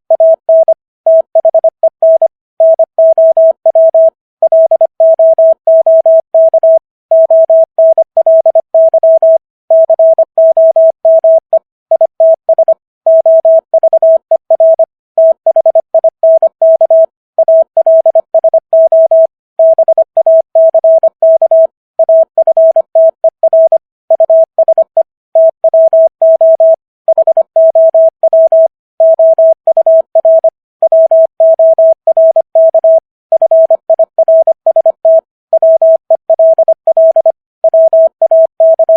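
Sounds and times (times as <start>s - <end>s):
morse code beeps: 0.1s - 38.9s.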